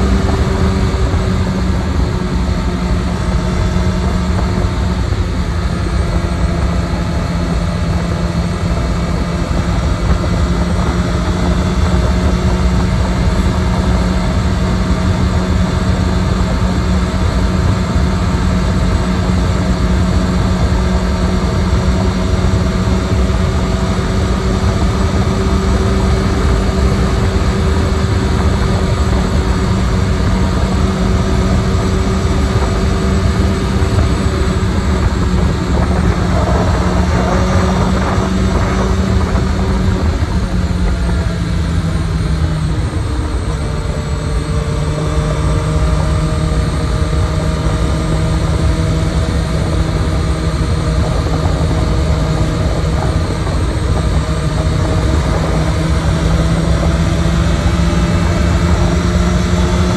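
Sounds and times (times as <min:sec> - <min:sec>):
motorcycle engine cruising: 0:00.0 - 0:59.9
road rumble: 0:00.0 - 0:59.9
wind noise: 0:00.0 - 0:59.9.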